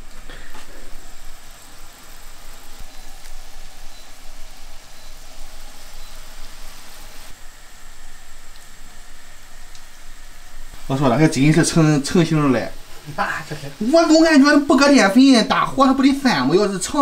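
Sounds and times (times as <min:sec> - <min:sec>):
pan of water simmering: 0:00.0 - 0:17.0.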